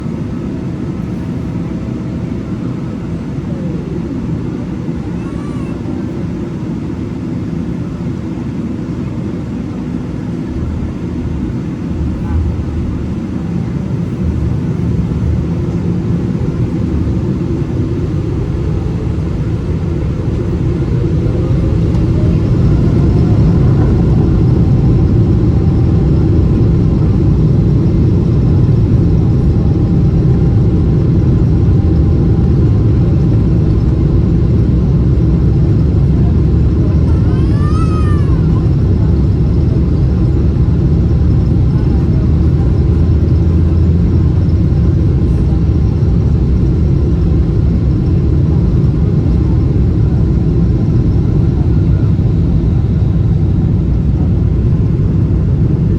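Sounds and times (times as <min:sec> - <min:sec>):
jet engines deep rumble: 0:00.0 - 0:55.9
rising engine whine: 0:10.0 - 0:55.9.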